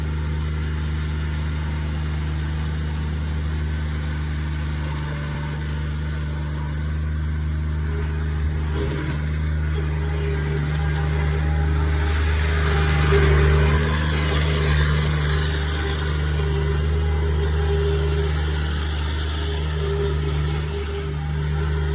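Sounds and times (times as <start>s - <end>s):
loader engine running: 0.0s - 21.9s.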